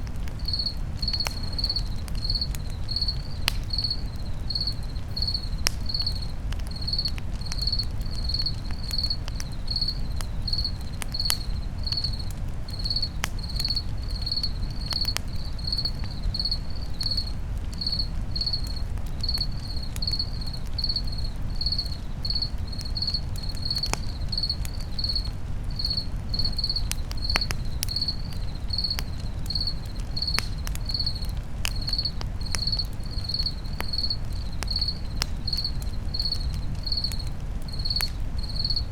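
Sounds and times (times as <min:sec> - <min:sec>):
campfire crackling and popping: 0:00.0 - 0:38.9
cricket chirping: 0:00.4 - 0:38.9.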